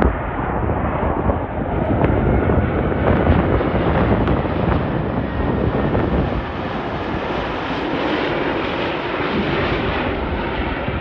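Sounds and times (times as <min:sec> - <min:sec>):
jet airliner engines: 0:00.0 - 0:11.0.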